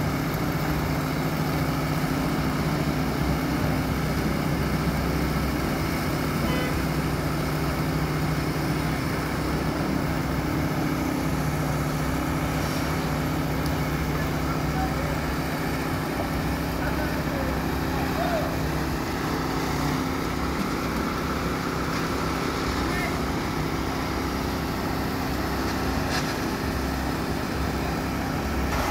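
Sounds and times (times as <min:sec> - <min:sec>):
diesel engine droning: 0:00.0 - 0:28.9.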